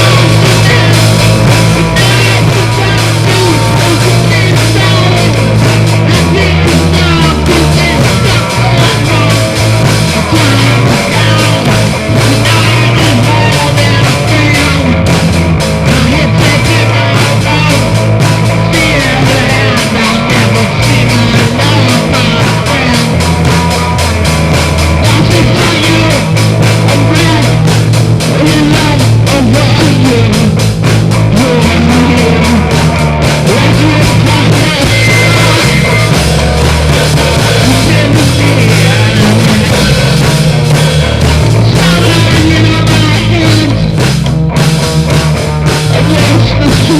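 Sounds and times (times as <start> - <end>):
rock music with distorted guitars: 0.0 - 46.9.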